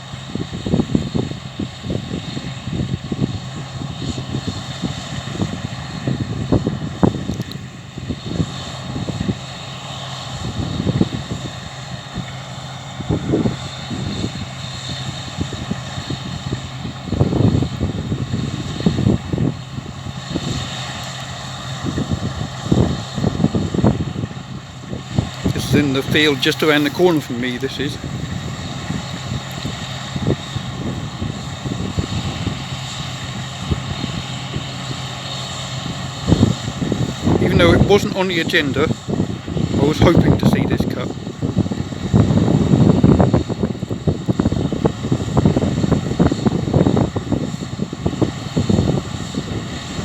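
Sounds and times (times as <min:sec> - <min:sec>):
combine harvester drone: 0:00.0 - 0:50.0
wind buffeting microphone: 0:00.0 - 0:50.0.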